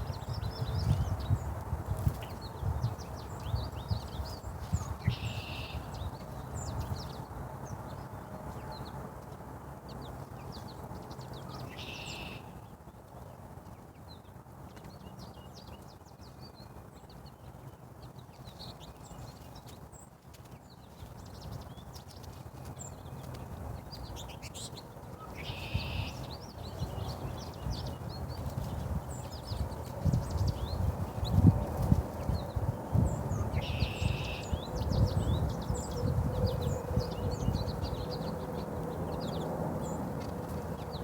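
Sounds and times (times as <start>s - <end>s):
small birds chirping: 0.0s - 9.0s, 9.8s - 41.0s.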